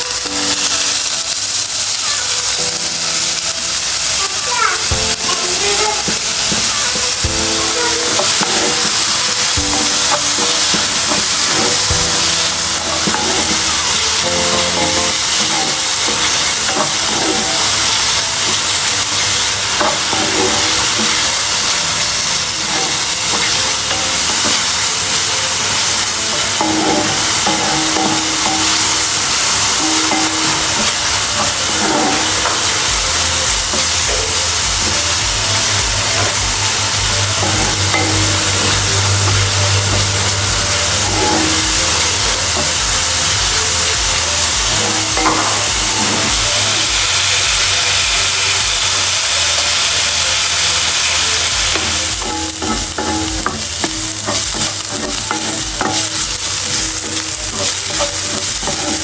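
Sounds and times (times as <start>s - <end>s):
food sizzling in a hot pan: 0.0s - 59.0s
background music with low beat: 2.5s - 59.0s.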